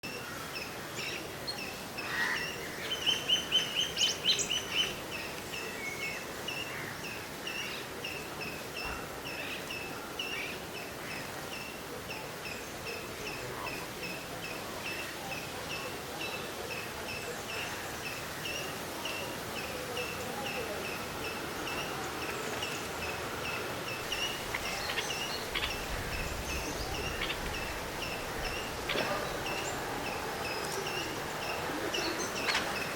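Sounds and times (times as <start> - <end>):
steady background hiss: 0.0 - 32.9.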